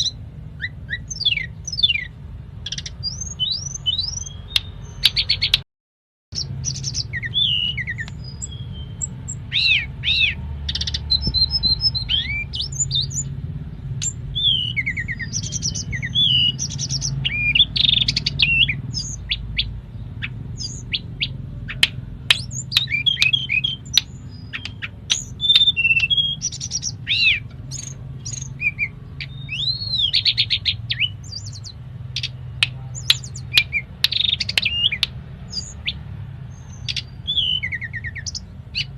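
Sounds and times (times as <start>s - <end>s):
songbird singing: 0.0s - 5.6s, 6.3s - 38.9s.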